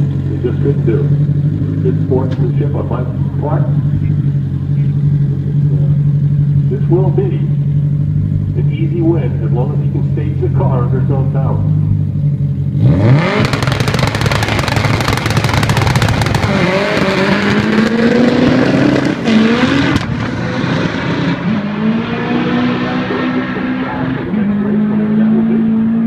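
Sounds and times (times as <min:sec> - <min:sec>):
drag car engine at full throttle: 0:00.0 - 0:26.0.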